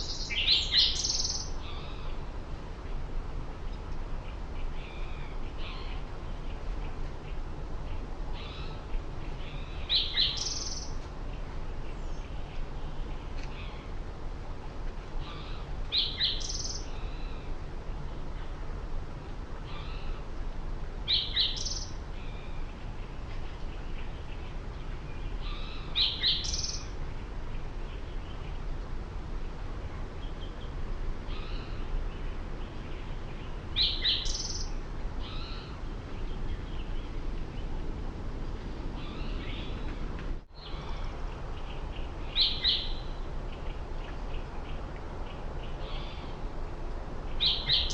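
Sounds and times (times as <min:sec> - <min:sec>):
wild birds chirping: 0:00.0 - 0:14.1, 0:15.2 - 0:18.6, 0:19.6 - 0:20.4, 0:21.0 - 0:28.8, 0:29.4 - 0:47.9
low background rumble: 0:00.0 - 0:47.9.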